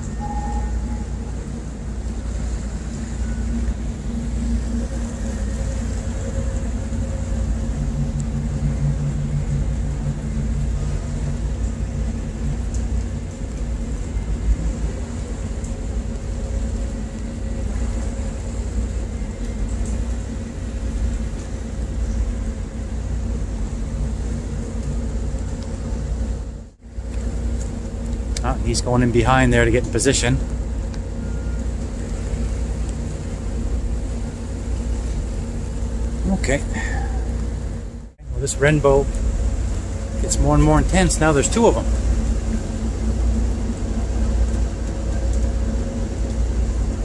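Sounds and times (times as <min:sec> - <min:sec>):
diesel engines droning: 0:00.0 - 0:47.0.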